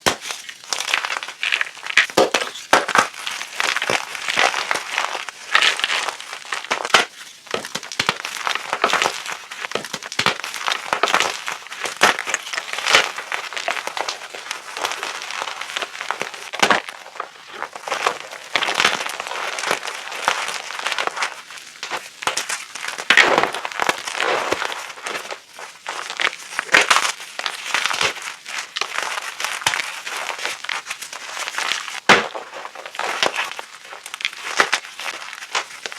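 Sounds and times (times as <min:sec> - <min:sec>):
chalk crunching by hand: 0:00.0 - 0:35.9.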